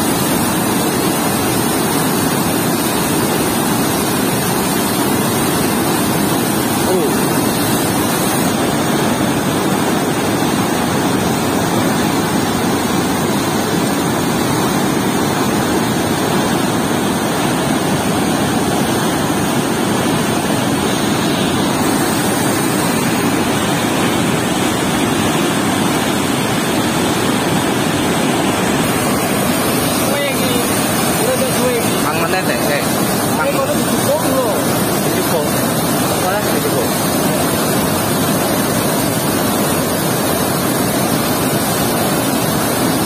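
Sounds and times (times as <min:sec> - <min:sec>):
water rushing through floodgate: 0:00.0 - 0:43.0.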